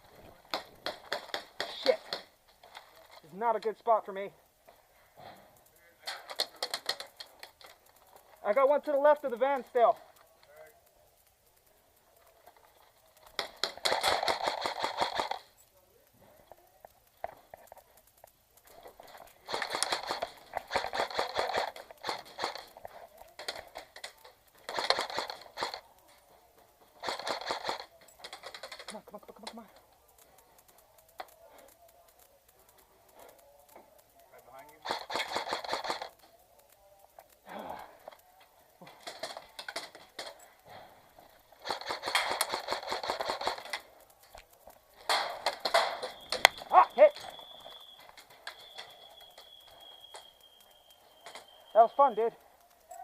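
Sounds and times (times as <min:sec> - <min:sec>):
airsoft guns firing bursts: 0:00.0 - 0:04.4, 0:05.2 - 0:10.2, 0:12.7 - 0:15.6, 0:18.6 - 0:36.4, 0:37.0 - 0:52.6.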